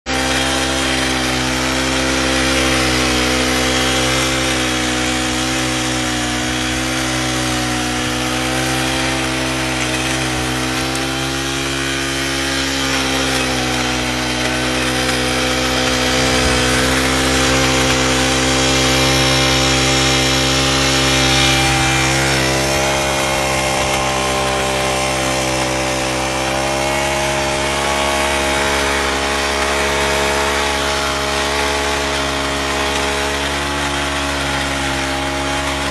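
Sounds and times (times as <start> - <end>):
hoe churning through soil: 0.0 - 35.9
motorized hoe running: 0.1 - 35.9.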